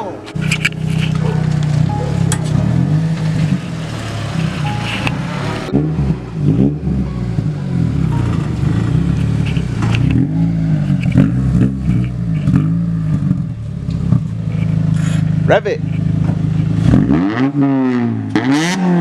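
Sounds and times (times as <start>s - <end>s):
car engine revving: 0.4s - 19.0s.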